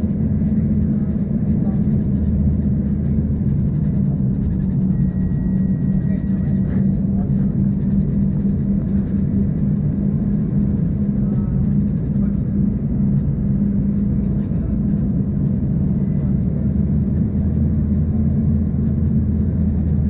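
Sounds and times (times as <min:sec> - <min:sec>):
jet engine hum in cabin: 0:00.0 - 0:20.0.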